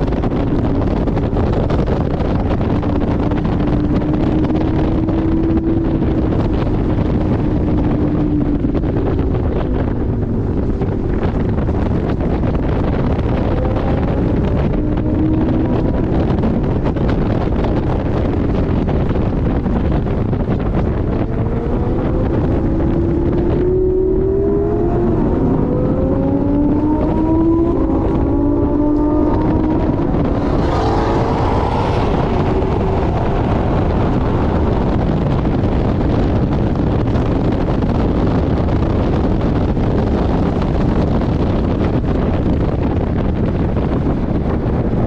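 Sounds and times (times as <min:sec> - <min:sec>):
car engine accelerating: 0:00.0 - 0:45.0
wind noise on microphone: 0:00.0 - 0:45.0.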